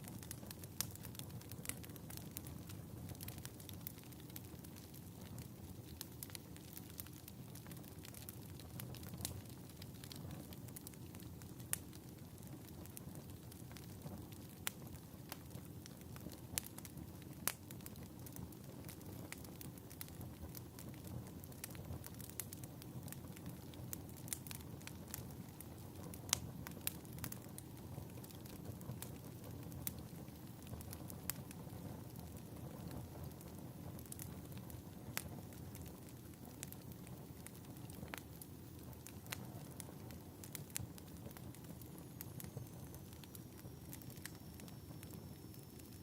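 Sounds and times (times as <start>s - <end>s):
fireplace fire crackling: 0.0s - 46.0s.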